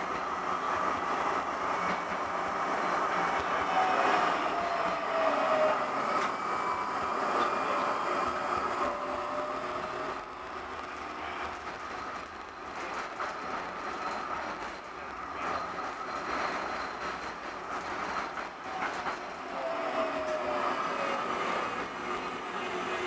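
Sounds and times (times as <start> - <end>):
tram motor whine: 0.0 - 23.0
tram wheels rumbling on rails: 0.0 - 23.0.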